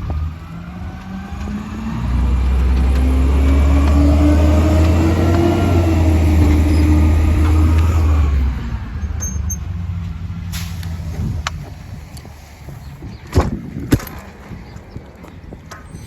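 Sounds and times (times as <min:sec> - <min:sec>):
truck engine deep hum: 0:00.0 - 0:16.0.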